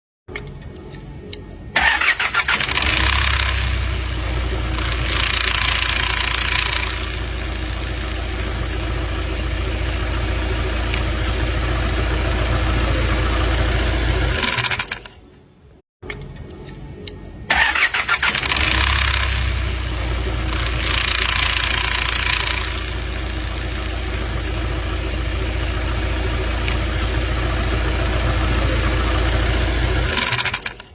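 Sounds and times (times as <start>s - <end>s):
vehicle engine starting and idling: 0.3s - 15.4s, 16.1s - 30.9s.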